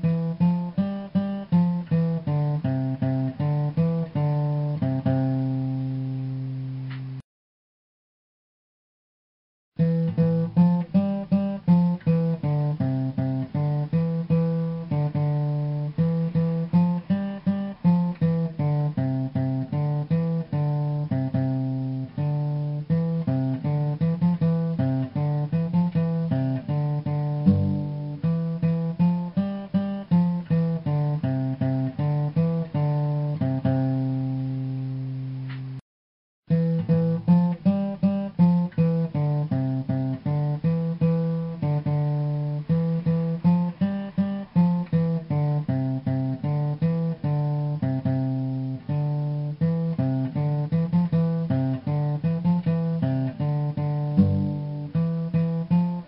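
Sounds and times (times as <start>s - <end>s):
solo guitar plucking: 0.0s - 7.2s, 9.8s - 35.8s, 36.5s - 56.0s.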